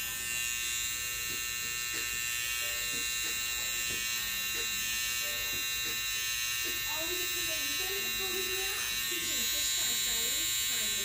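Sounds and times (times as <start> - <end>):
hair trimmer buzzing: 0.0 - 11.0.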